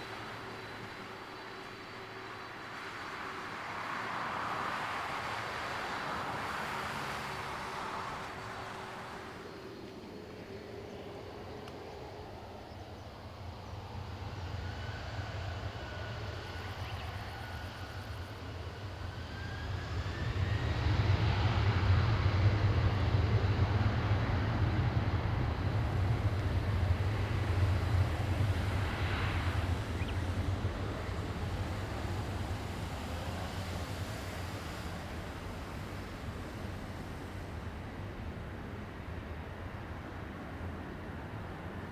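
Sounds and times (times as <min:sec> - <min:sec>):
jet engines passing: 0:00.0 - 0:41.9.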